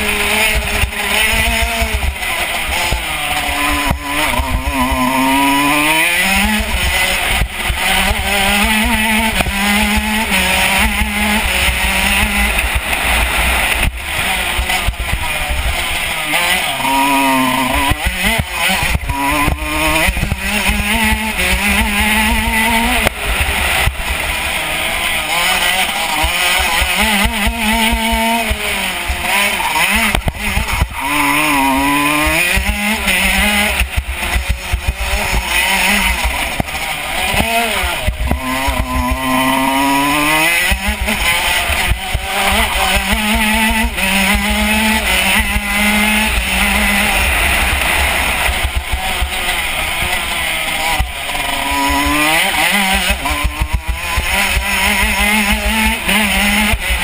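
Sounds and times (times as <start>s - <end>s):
kart two-stroke engine racing: 0.0s - 57.0s.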